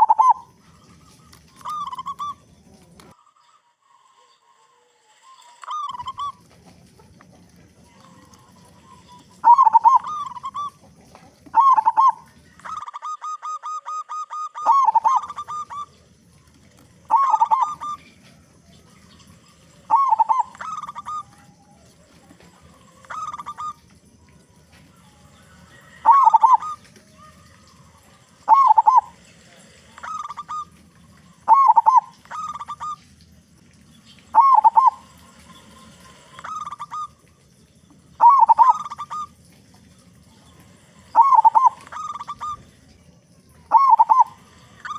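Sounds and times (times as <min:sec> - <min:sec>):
dove cooing: 0:00.0 - 0:03.2, 0:05.4 - 0:44.9.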